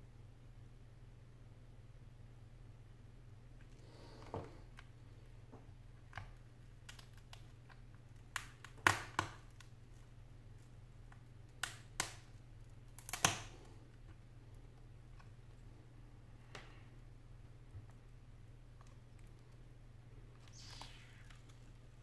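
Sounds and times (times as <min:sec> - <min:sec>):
low steady hum: 0:00.0 - 0:08.8, 0:09.4 - 0:22.0.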